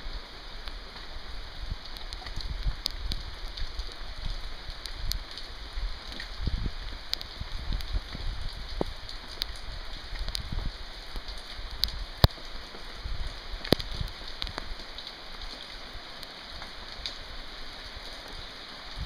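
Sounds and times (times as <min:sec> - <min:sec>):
rain hissing on pavement: 0:00.0 - 0:19.0.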